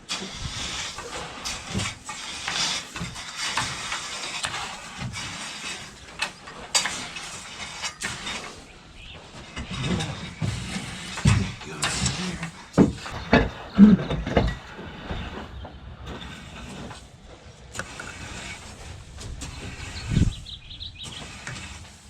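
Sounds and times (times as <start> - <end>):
loose fill scraped along ground: 0.0 - 22.0.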